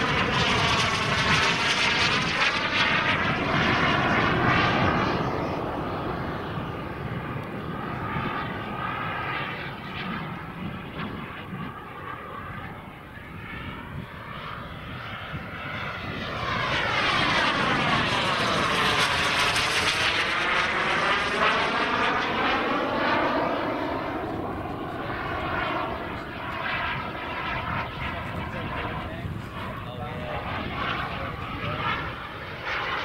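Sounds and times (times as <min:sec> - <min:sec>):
model jet turbine passing: 0:00.0 - 0:33.0.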